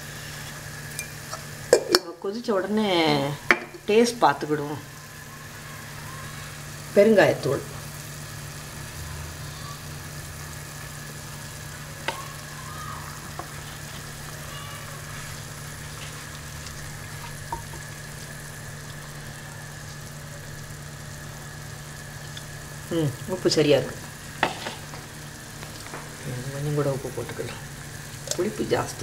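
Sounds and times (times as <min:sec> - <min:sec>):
pan of gravy hissing on gas burner: 0:00.0 - 0:29.0.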